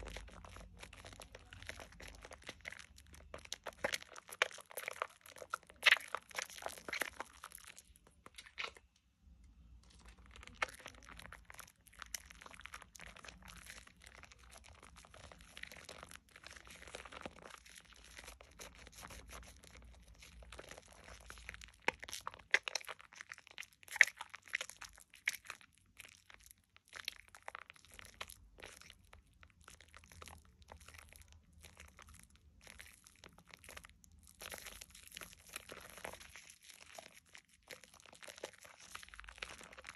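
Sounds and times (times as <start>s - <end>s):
hands squishing soap lather: 0.0s - 39.9s.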